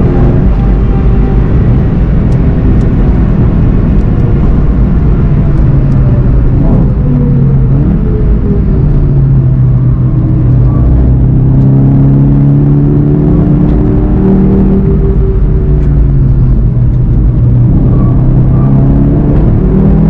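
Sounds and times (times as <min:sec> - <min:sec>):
car engine braking and revving: 0:00.0 - 0:20.0
wind noise: 0:00.0 - 0:20.0.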